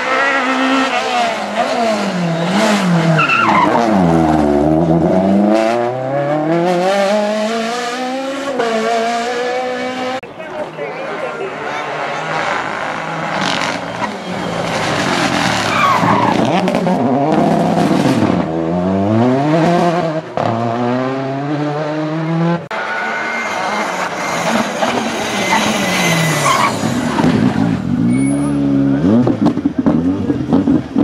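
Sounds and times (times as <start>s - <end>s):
rally car engine revving: 0.0s - 10.3s, 11.0s - 31.0s.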